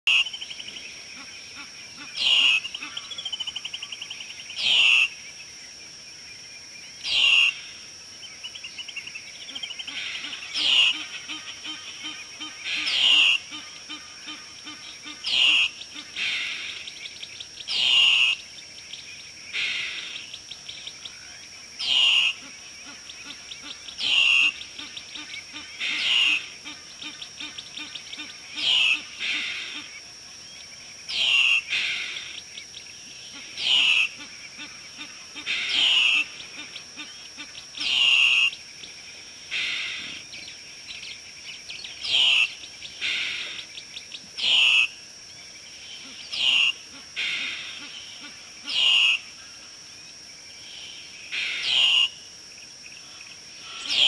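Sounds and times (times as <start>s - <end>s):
steady high hum: 0.1s - 54.0s.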